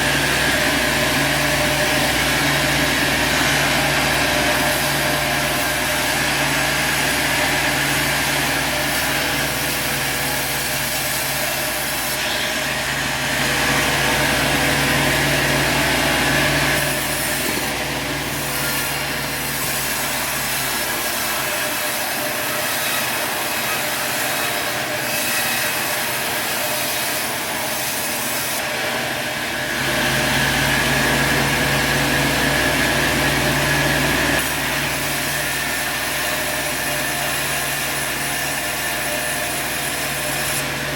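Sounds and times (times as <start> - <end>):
sawmill sawing through log: 0.0 - 40.9.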